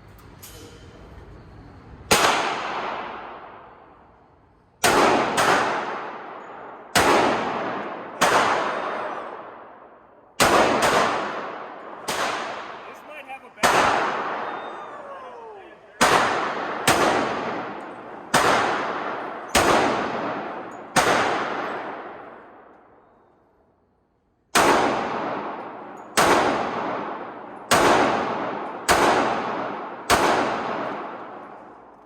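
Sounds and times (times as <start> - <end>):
pistol shots echoing: 2.1 - 4.0, 4.8 - 23.1, 24.5 - 32.0.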